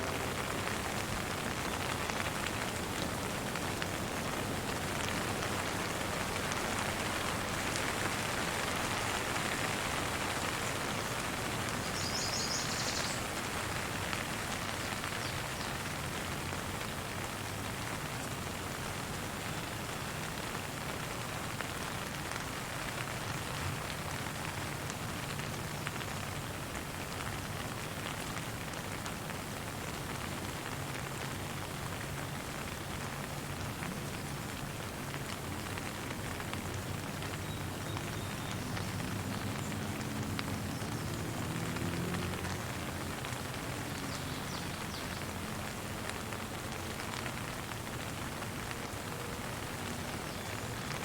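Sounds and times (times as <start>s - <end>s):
gentle rain falling: 0.0s - 51.0s.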